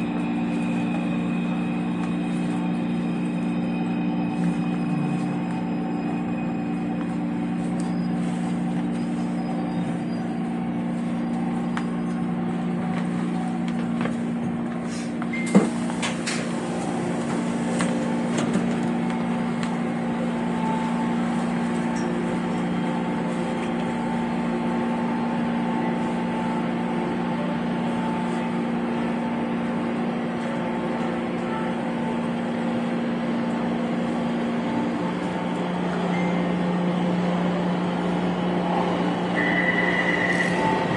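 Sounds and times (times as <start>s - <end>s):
train hum and rumble: 0.0s - 40.9s.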